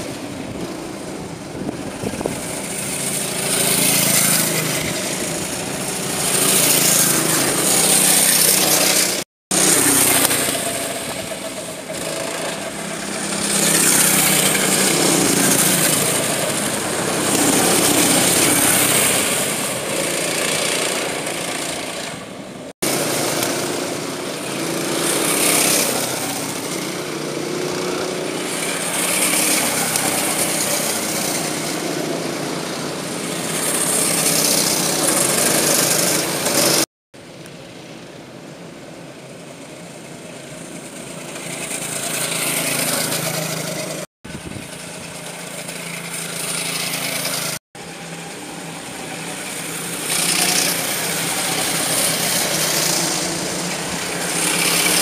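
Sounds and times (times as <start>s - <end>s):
racing kart engines buzzing: 0.0s - 36.9s, 37.5s - 55.0s.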